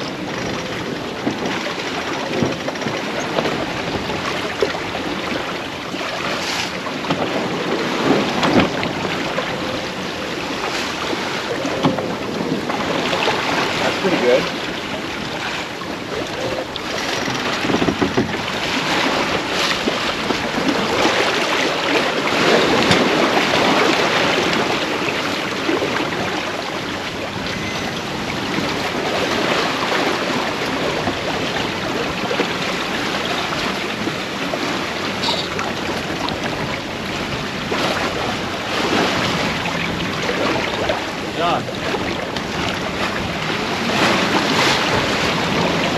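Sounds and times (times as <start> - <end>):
water rushing along hull: 0.0 - 45.9
wind buffeting microphone: 0.0 - 45.9.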